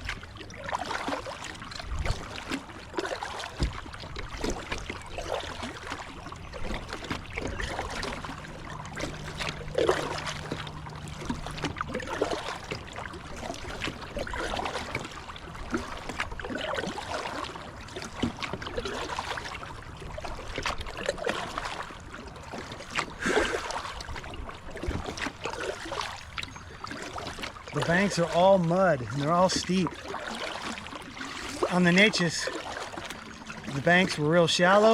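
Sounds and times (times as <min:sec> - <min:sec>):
paddle strokes splashing water: 0:00.0 - 0:34.9
river water washing: 0:00.0 - 0:34.9.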